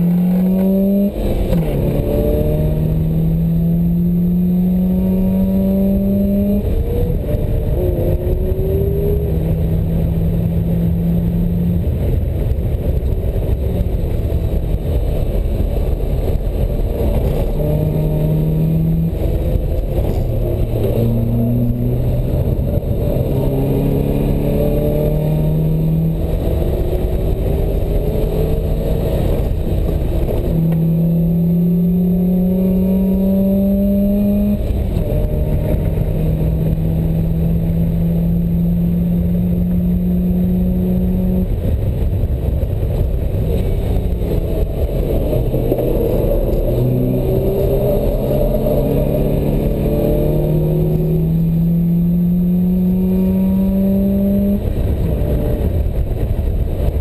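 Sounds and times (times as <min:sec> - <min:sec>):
heavy wind: 0:00.0 - 0:57.0
road rumble: 0:00.0 - 0:57.0
sports car engine revving: 0:00.0 - 0:57.0.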